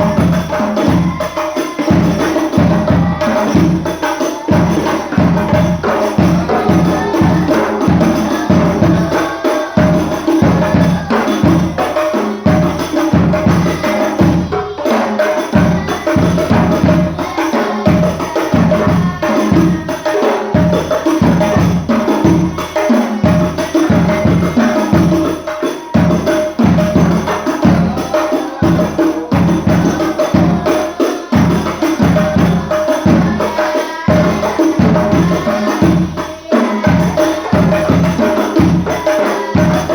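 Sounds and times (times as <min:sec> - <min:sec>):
frame drums beating: 0:00.0 - 0:39.9.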